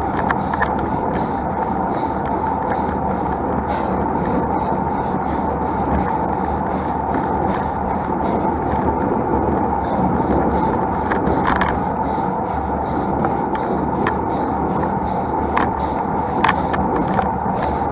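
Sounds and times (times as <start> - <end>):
bike road noise: 0.0 - 17.9
sharp ticks: 0.0 - 17.9
wind on microphone: 0.0 - 17.9.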